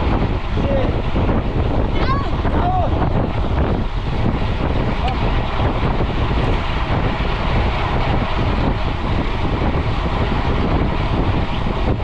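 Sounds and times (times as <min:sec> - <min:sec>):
bike tyre noise on road: 0:00.0 - 0:12.0
wind buffeting microphone: 0:00.0 - 0:12.0.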